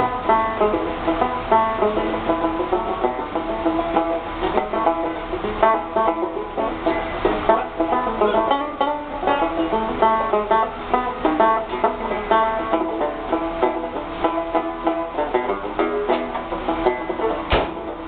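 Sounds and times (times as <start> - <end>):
banjo picking: 0.0 - 18.0.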